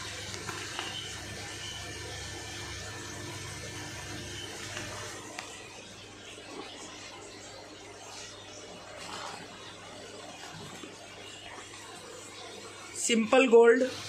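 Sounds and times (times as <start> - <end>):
aquarium water moving: 0.0 - 14.0
low pump hum: 0.0 - 14.0.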